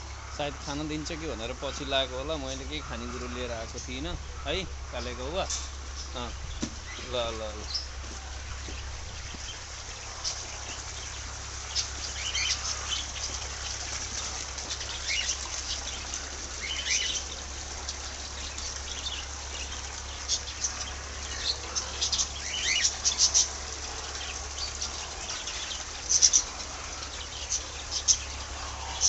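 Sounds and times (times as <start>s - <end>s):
birds chirping: 0.0s - 29.0s
steady low hum: 0.0s - 29.0s.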